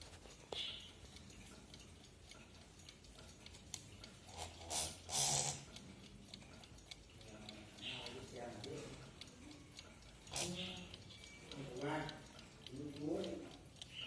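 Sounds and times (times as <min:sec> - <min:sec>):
alarm clock ticking: 0:00.0 - 0:14.0.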